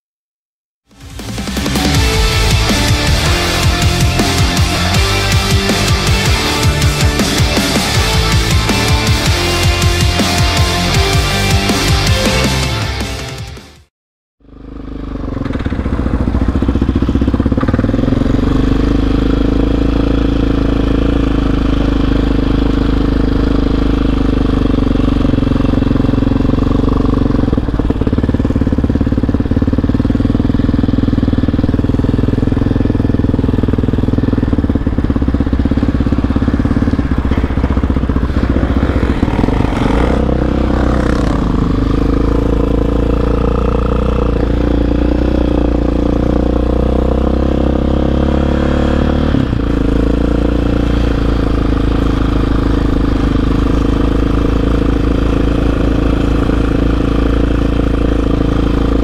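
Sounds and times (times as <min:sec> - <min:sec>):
atv engine running: 0:00.9 - 0:13.6, 0:14.4 - 0:59.0.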